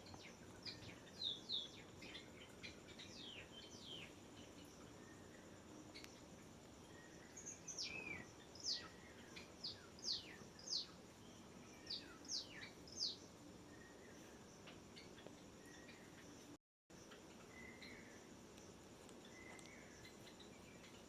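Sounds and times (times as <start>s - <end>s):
bird chirping: 0.0s - 21.0s
faint steady hiss: 0.0s - 21.0s.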